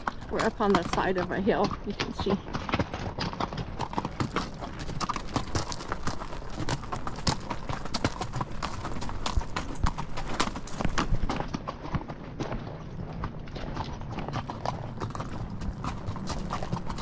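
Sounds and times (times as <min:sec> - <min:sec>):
horse hooves clopping: 0:00.0 - 0:17.0.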